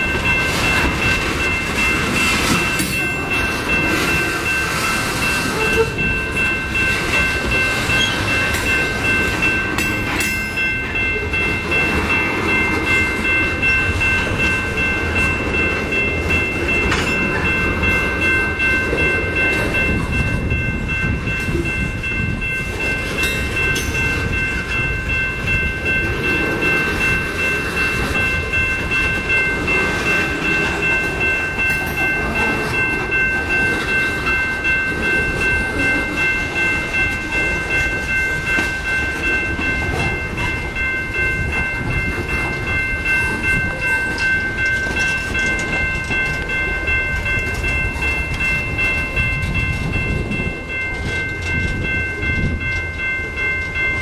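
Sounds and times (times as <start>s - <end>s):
crossing warning bell: 0.0s - 54.0s
train wheels rumbling on rails: 0.0s - 54.0s.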